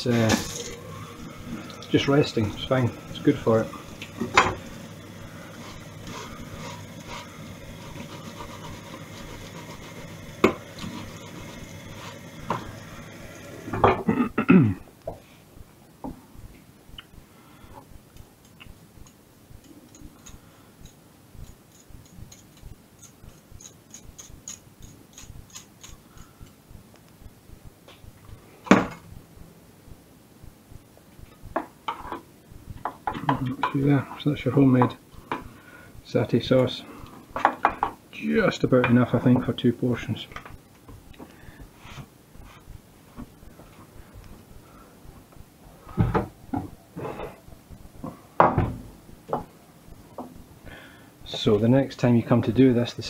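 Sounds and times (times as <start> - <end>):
steady background noise: 0.0 - 53.0.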